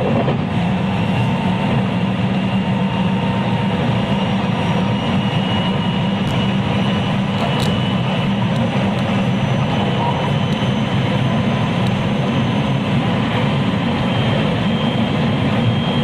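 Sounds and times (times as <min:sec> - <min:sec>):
faint running gear whine: 0:00.0 - 0:16.0
train wheels rumbling on rail: 0:00.0 - 0:16.0.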